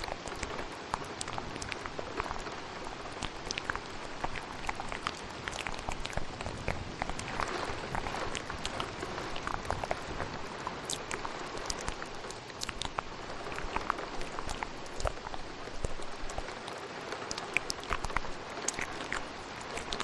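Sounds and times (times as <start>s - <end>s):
steady rain: 0.0s - 20.0s
wet mouth clicks and smacks: 0.0s - 20.0s.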